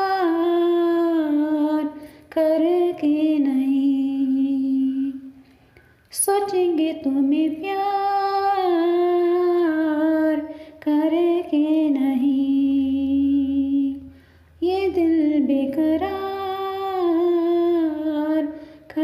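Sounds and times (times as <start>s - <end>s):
woman singing without accompaniment: 0.0s - 19.0s.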